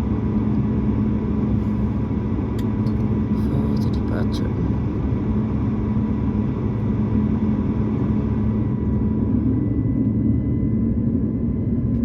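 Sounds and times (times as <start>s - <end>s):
aircraft cabin drone: 0.0s - 12.0s
faint steady whines: 0.0s - 12.0s.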